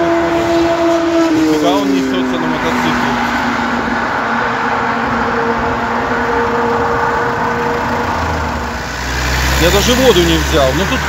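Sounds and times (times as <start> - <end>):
engine hum: 0.0 - 11.0
highway traffic passing: 0.0 - 11.0.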